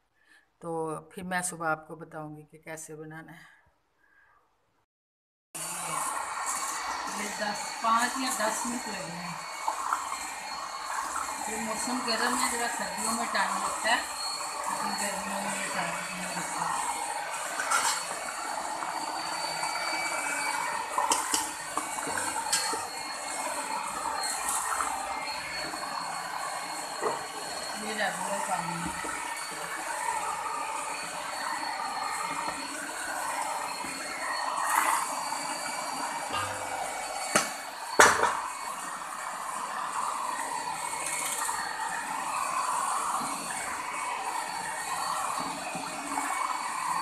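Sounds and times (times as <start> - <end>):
electric hand mixer running: 5.6 - 47.0.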